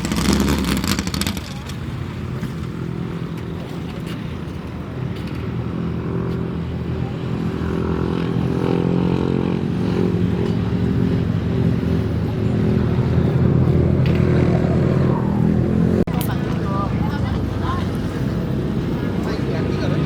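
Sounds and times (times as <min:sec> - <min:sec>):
speedboat engine droning: 0:00.0 - 0:20.0.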